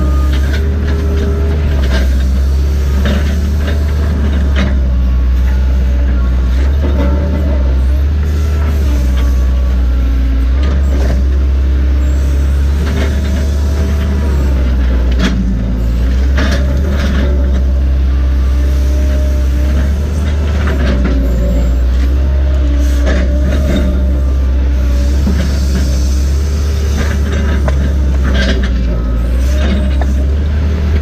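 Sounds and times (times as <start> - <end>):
diesel engine under load: 0.0 - 31.0.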